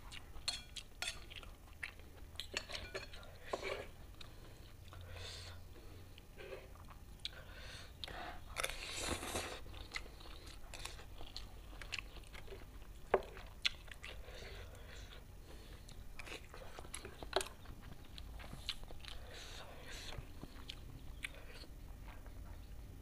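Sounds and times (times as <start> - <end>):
chewing and mouth noises: 0.0 - 5.0, 8.0 - 23.0.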